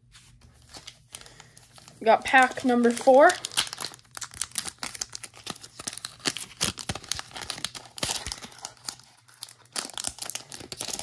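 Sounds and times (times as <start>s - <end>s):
foil wrapper crinkling and tearing: 0.6s - 11.0s.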